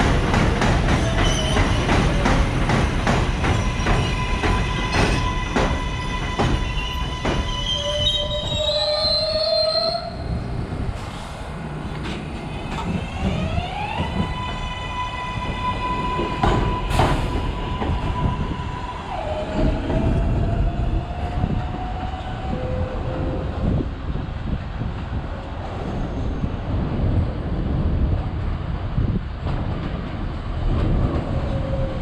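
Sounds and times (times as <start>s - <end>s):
train low rumble: 0.0s - 32.0s.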